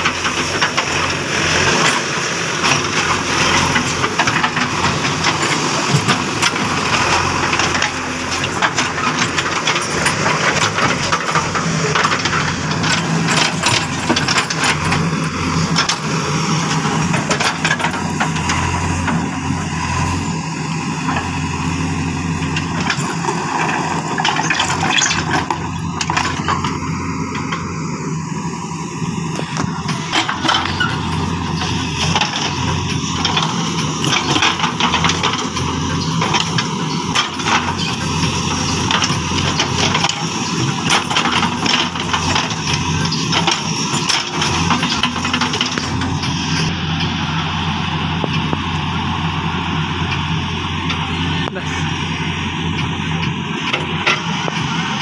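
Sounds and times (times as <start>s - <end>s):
digger bucket clanking on ground: 0.0s - 27.8s, 29.3s - 47.2s
diesel engine running: 0.0s - 55.0s.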